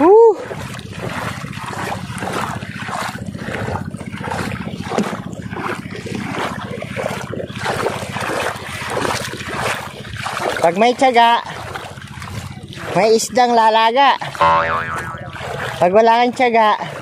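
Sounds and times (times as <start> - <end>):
footsteps wading through muddy water: 0.0 - 17.0.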